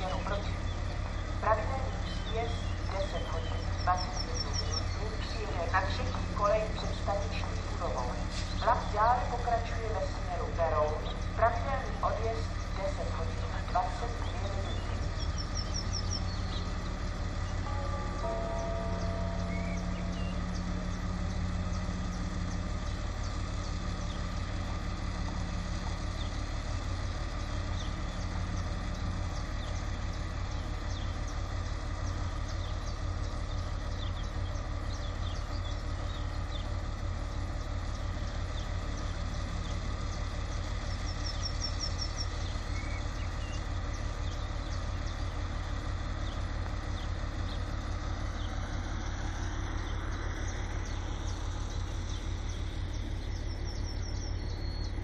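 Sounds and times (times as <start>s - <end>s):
birds chirping: 0.0s - 55.0s
diesel engine idling: 0.0s - 55.0s.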